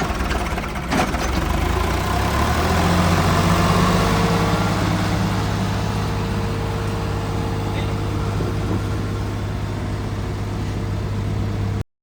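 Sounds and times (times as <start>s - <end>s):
heavy diesel engine running: 0.0s - 11.8s.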